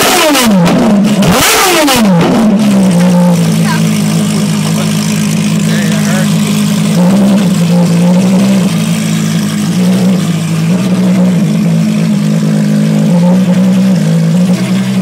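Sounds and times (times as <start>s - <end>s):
race car engine idling: 0.6s - 15.0s.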